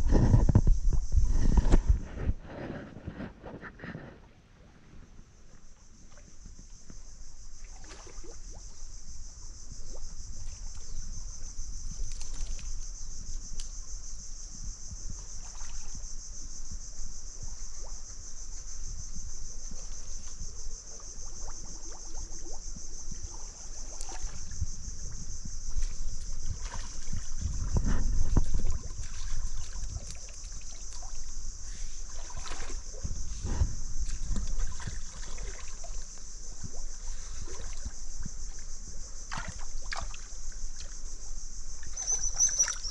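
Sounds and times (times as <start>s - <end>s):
high-pitched insect drone: 8.5s - 42.9s.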